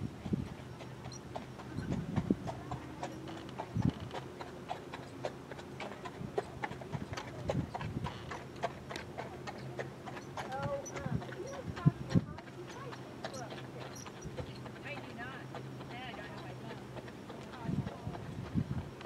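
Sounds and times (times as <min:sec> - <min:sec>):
horse hoofbeats: 0:00.0 - 0:19.0.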